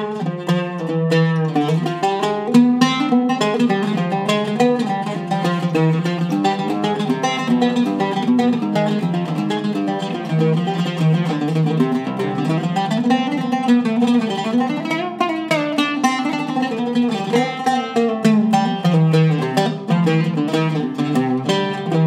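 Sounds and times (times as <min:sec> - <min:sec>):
oud plucked melody: 0:00.0 - 0:22.0.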